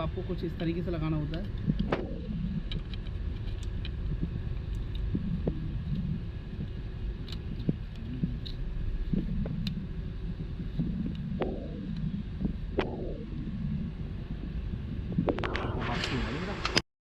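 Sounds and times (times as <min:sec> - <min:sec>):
low rumble: 0:00.0 - 0:16.8.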